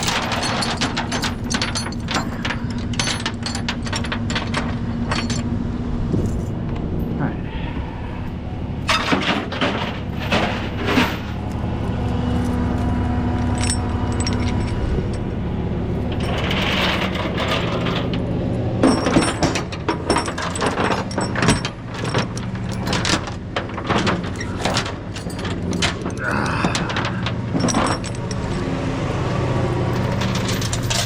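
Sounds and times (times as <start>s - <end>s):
chains clinking and rattling: 0.0s - 7.1s, 8.8s - 31.0s
engine idling: 0.0s - 31.0s.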